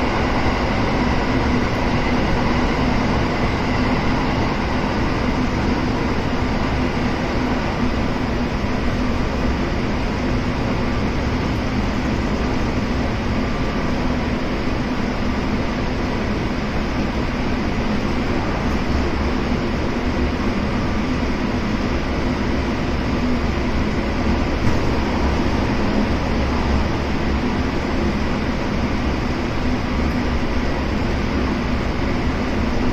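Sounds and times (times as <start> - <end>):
train low hum: 0.0 - 32.9
wheels rumbling on rail: 0.0 - 32.9.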